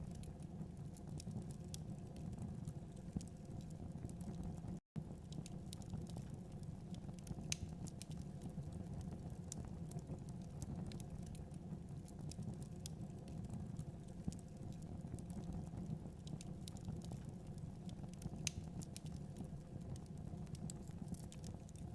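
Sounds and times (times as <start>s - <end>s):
fire crackling and popping: 0.0s - 21.9s
fire rumbling: 0.0s - 21.9s.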